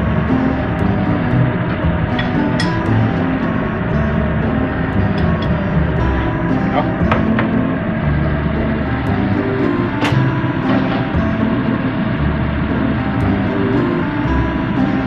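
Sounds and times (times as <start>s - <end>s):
low bass notes: 0.0s - 15.0s.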